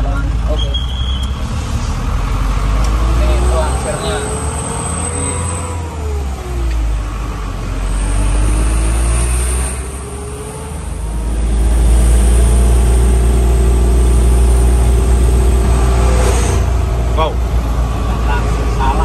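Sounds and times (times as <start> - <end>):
truck engine while driving: 0.0 - 19.0.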